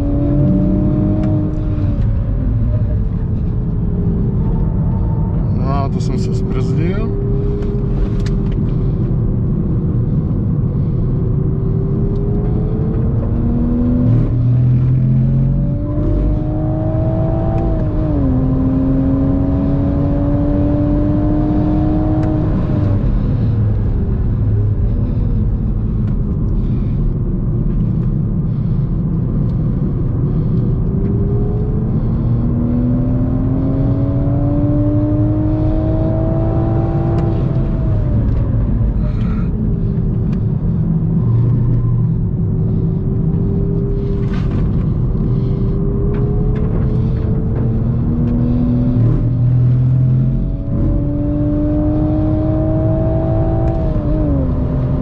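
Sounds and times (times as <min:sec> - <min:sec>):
car engine accelerating: 0:00.0 - 0:55.0
road rumble: 0:00.0 - 0:55.0.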